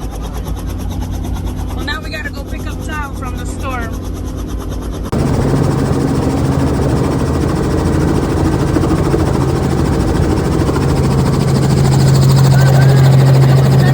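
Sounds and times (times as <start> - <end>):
helicopter rotor and engine: 0.0 - 13.9.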